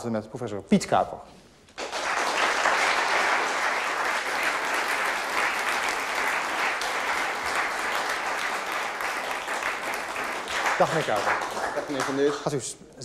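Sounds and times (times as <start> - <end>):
audience applauding: 1.8 - 12.6.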